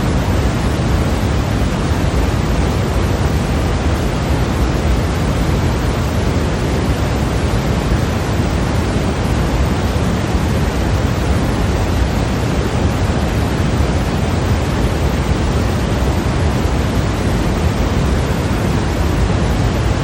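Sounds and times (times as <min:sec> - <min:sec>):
steady white noise hiss: 0:00.0 - 0:20.0.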